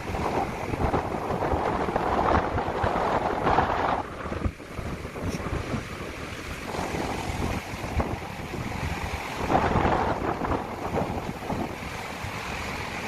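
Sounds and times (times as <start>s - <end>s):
sea washing: 0.0s - 13.0s
wind buffeting microphone: 0.0s - 13.0s.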